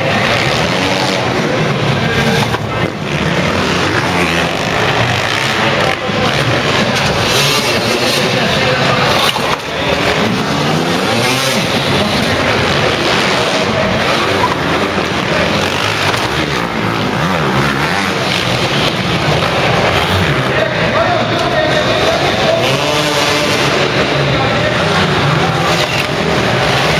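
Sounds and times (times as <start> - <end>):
motocross bike engines revving: 0.0 - 26.9.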